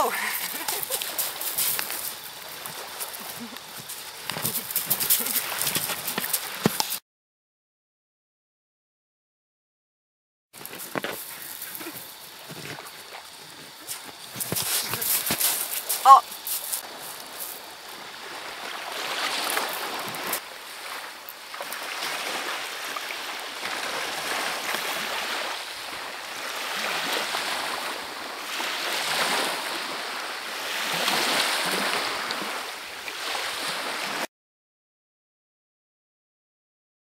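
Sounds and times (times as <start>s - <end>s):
small waves on pebbly beach: 0.0s - 7.0s, 10.6s - 34.3s.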